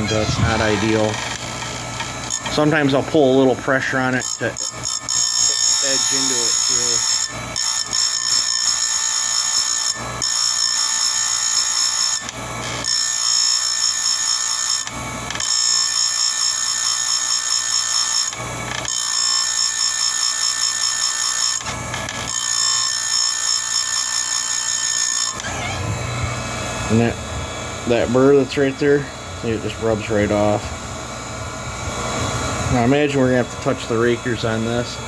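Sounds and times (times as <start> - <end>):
grinder wheel whining: 0.0 - 35.0.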